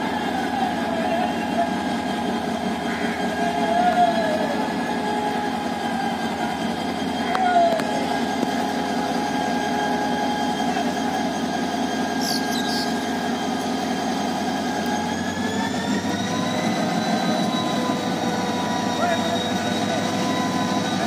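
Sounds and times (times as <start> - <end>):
locomotive engine droning: 0.0 - 21.0.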